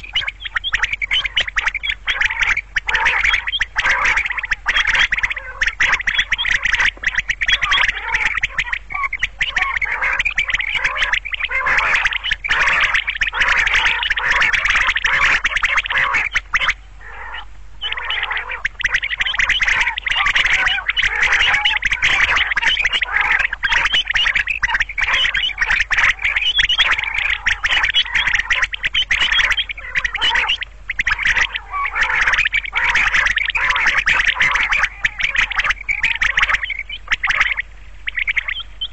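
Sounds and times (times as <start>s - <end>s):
quail calling: 0.0s - 38.9s.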